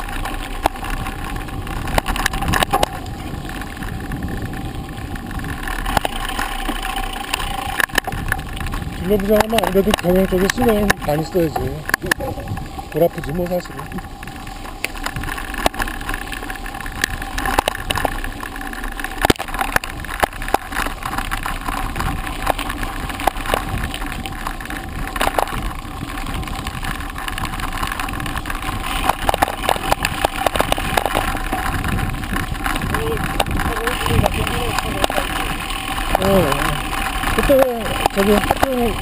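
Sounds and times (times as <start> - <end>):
vehicle rolling over bumpy track: 0.0 - 39.0.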